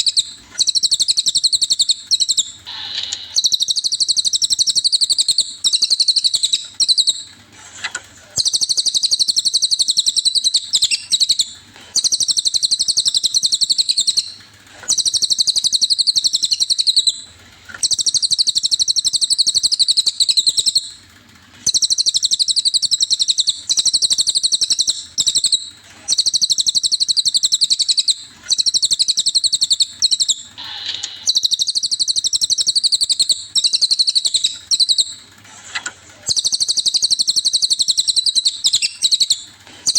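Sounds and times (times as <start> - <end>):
songbird trilling: 0.0 - 7.2, 8.4 - 17.2, 17.8 - 20.9, 21.7 - 35.1, 36.3 - 39.9.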